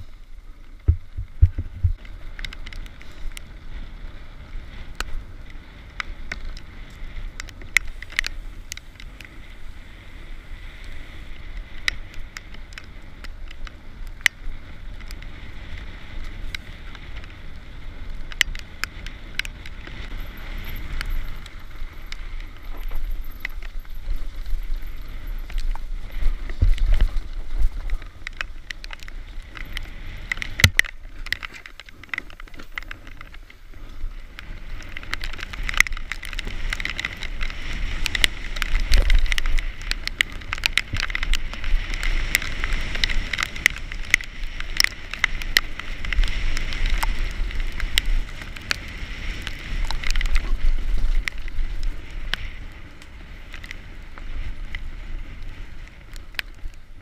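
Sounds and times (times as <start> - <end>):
bike chain and frame clatter: 0.0 - 57.0
wind buffeting microphone: 0.0 - 57.0.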